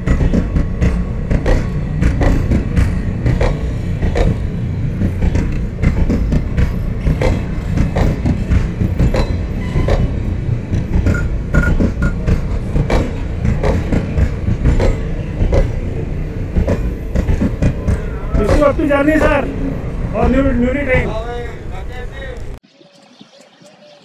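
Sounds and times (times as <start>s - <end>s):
train rumbling past: 0.0s - 22.6s
wheels clacking over rail joints: 0.0s - 22.6s.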